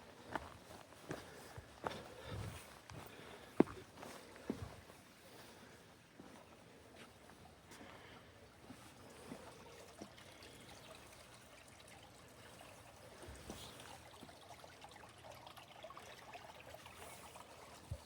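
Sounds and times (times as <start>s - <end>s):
faint trickling water: 0.0s - 18.0s
small drips and ticks: 0.1s - 18.0s.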